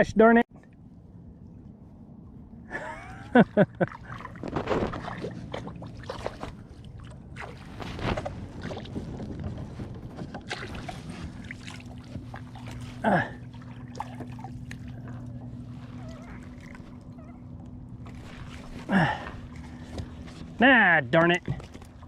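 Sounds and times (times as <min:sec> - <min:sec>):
water splashing around kayak: 0:03.0 - 0:22.0.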